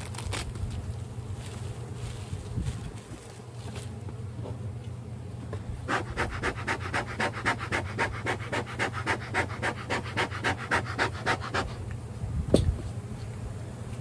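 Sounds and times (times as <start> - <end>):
honeybees humming: 0.0 - 14.0.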